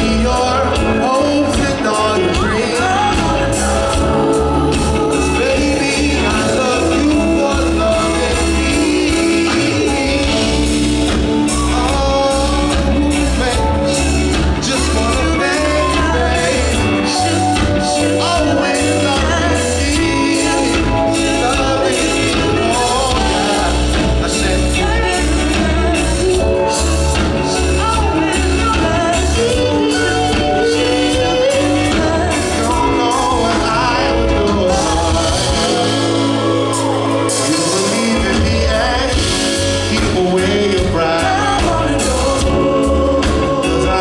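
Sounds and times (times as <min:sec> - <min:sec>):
live band playing rnb song: 0:00.0 - 0:44.0
person singing: 0:00.0 - 0:44.0.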